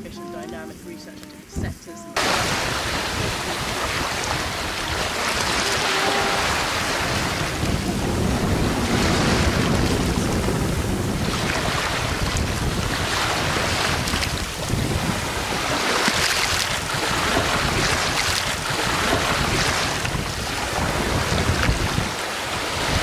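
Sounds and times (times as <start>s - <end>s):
wind buffeting microphone: 1.5s - 23.0s
waves breaking on a shore: 2.2s - 23.0s.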